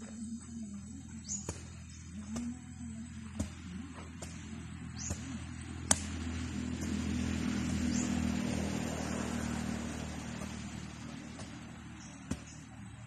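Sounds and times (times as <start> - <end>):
vehicle passing on road: 1.2 - 13.0.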